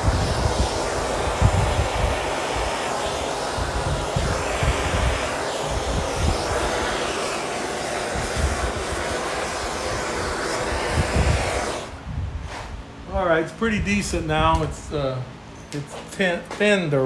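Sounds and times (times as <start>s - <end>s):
gas torch hissing and rumbling: 0.0s - 17.0s.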